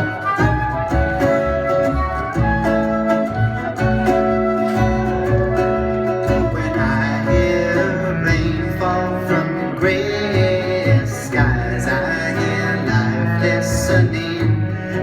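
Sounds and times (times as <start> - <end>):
guitar: 0.0 - 15.0
live band instrumental music: 0.0 - 15.0.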